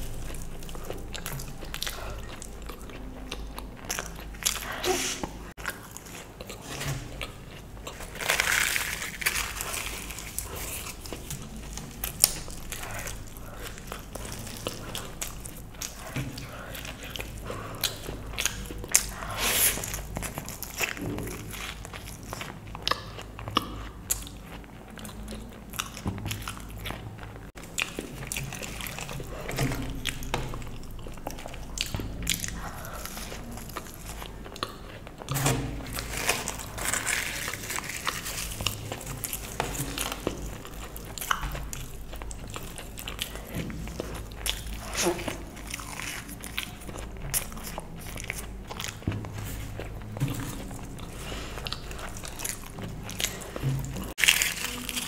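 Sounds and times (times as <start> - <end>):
person biting and chewing: 0.0 - 55.0.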